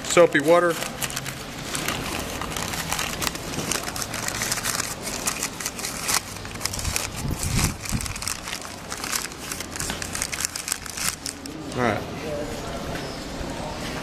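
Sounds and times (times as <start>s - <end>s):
paper wrapping crinkling: 0.2s - 11.8s.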